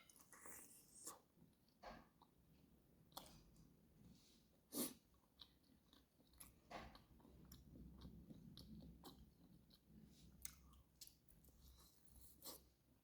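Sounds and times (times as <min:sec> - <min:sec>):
chewing food: 0:00.0 - 0:12.8.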